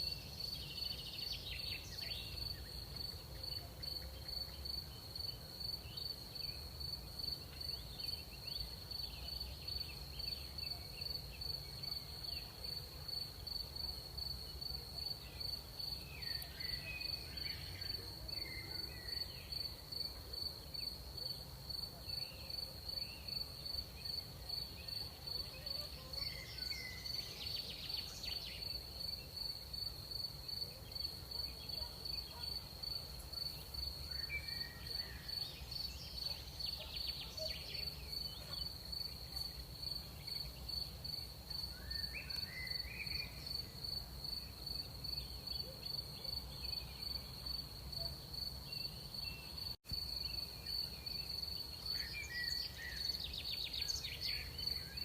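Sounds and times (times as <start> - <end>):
crickets chirping: 0.0 - 55.0
insects chirping: 0.0 - 55.0.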